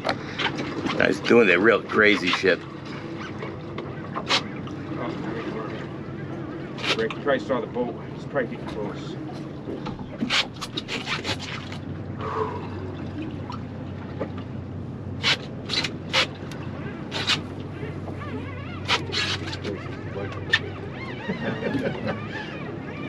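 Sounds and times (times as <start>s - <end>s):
boat engine idling: 0.0s - 23.0s
water splashing against hull: 0.0s - 23.0s.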